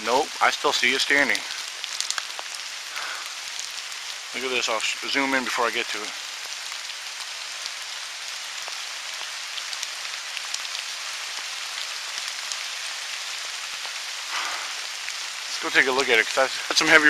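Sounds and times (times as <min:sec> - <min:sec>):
rain on leaves: 0:00.0 - 0:17.0.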